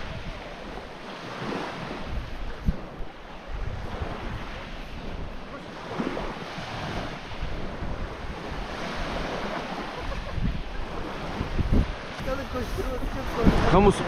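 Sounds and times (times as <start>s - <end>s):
waves washing onto shingle: 0.0s - 14.0s
wind buffeting microphone: 0.0s - 14.0s.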